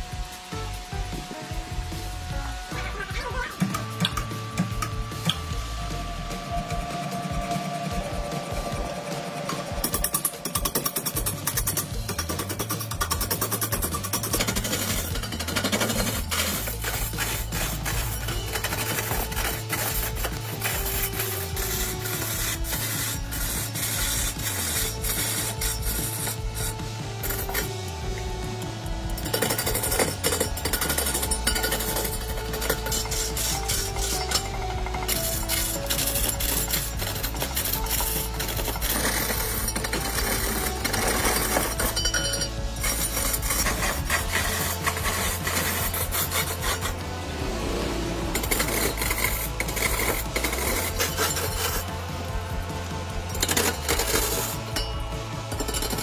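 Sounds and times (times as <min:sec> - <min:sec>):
background music with bass line: 0:00.0 - 0:56.0
low hum: 0:00.0 - 0:56.0
chisel scraping spinning log: 0:01.2 - 0:56.0.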